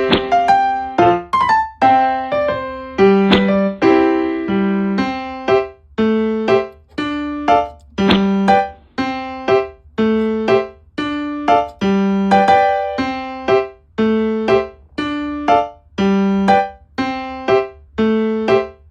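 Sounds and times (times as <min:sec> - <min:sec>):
simple piano melody: 0:00.0 - 0:18.9.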